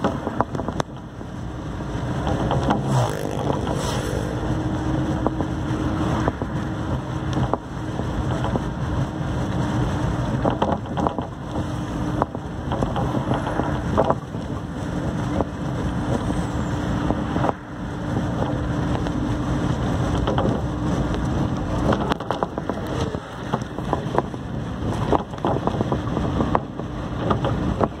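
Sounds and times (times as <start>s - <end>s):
vehicle engine and road noise: 0.0s - 28.0s
short rattles and knocks: 2.0s - 4.0s, 5.1s - 16.2s, 18.2s - 28.0s.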